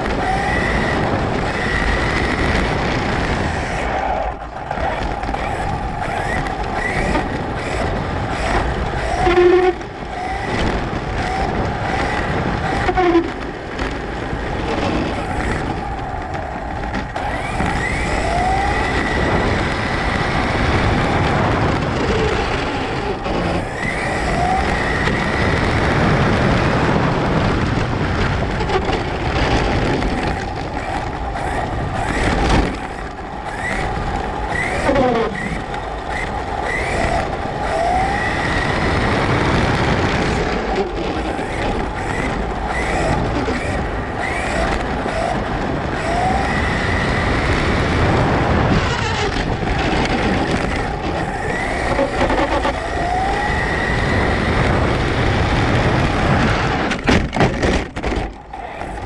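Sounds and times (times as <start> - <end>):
rc truck motor whining: 0.0 - 59.0
tyre and wind noise: 0.0 - 59.0.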